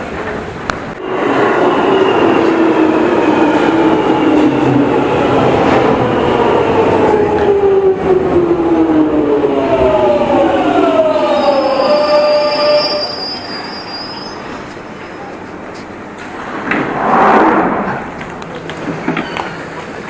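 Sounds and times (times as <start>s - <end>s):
train rumble and rail noise: 0.0s - 20.0s.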